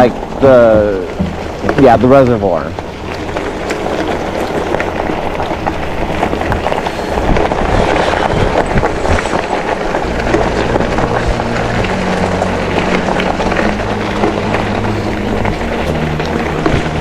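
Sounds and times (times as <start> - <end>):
bike tyres crunching over trail: 0.0 - 17.0
steady low hum: 0.0 - 17.0
wind on microphone: 2.7 - 17.0.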